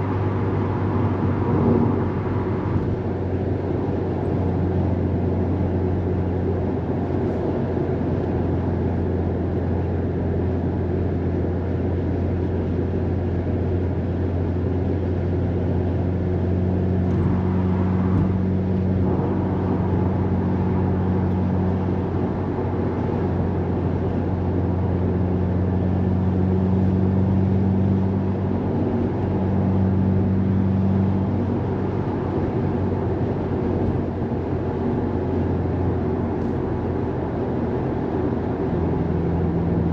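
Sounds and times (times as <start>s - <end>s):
car engine drone from inside cabin: 0.0s - 39.9s.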